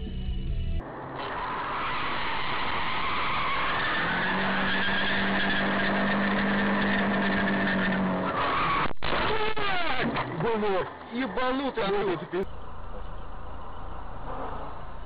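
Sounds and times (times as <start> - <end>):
car driving noise: 0.0 - 15.0.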